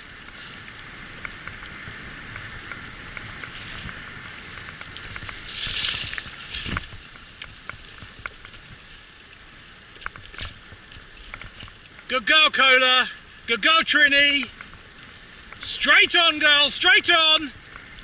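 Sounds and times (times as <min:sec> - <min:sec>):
wheels rolling on a track: 0:00.0 - 0:18.0.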